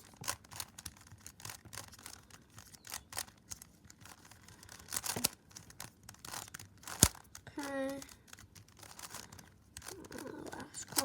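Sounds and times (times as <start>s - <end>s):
speed cube clicking: 0.0s - 11.0s.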